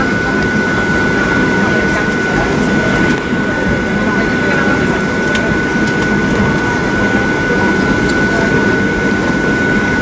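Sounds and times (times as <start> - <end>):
airliner cabin rumble and whine: 0.0 - 10.0.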